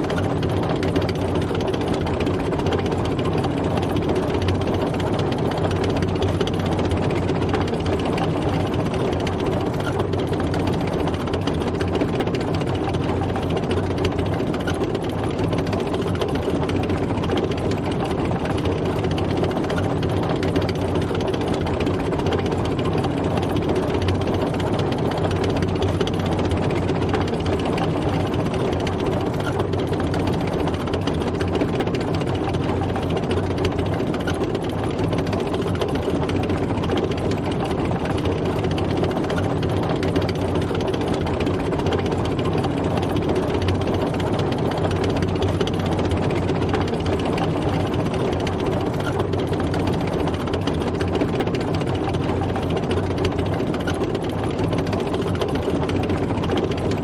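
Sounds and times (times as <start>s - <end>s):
tank engine running: 0.0s - 57.0s.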